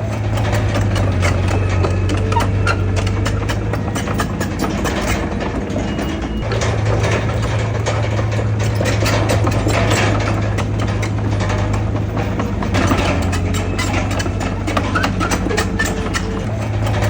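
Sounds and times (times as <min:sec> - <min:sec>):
diesel engine running: 0:00.0 - 0:17.0
machine clanks and knocks: 0:00.0 - 0:17.0.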